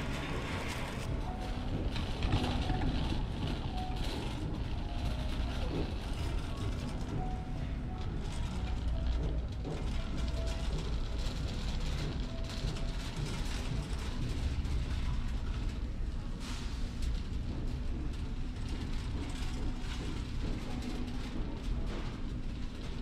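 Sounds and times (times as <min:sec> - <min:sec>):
shopping cart rolling: 0:00.0 - 0:23.0.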